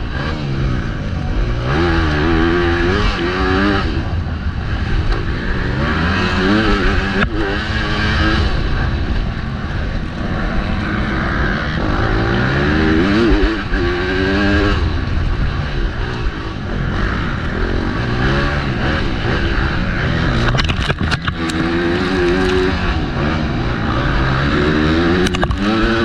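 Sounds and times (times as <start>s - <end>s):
motorcycle engine revving: 0.0s - 26.0s
wind rumble on microphone: 0.0s - 26.0s.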